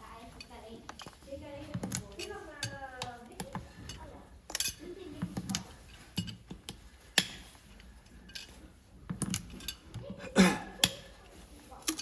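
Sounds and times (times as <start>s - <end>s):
tools tapping on metal: 0.4s - 10.2s, 10.8s - 12.0s.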